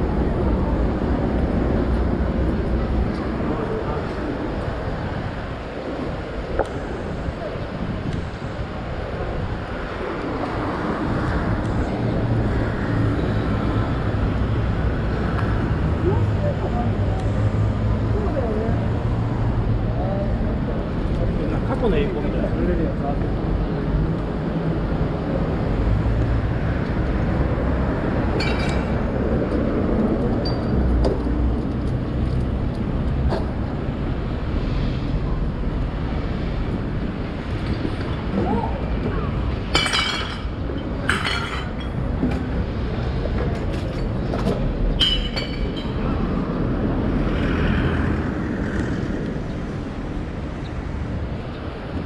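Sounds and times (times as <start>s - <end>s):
low traffic rumble: 0.0s - 52.0s.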